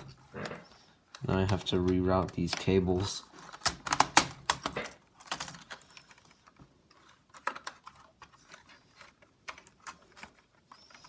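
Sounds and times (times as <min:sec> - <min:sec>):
cable rustles: 0:00.0 - 0:11.0
small plastic clicks: 0:00.0 - 0:11.0.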